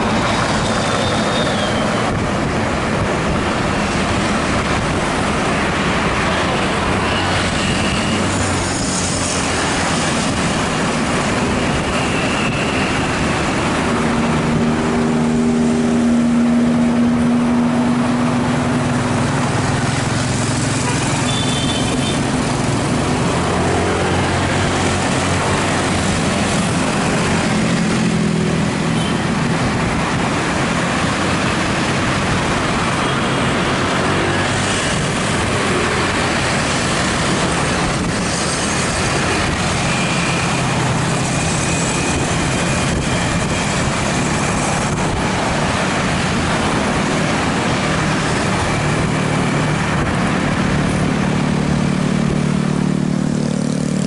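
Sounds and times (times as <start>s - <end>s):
wind and tyre noise: 0.0s - 54.0s.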